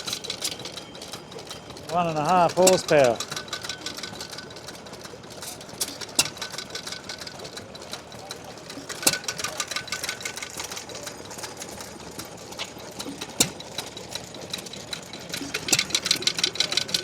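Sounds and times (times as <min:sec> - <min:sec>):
rapid irregular clicking: 0:00.0 - 0:17.0
stationary engines running: 0:00.0 - 0:17.0.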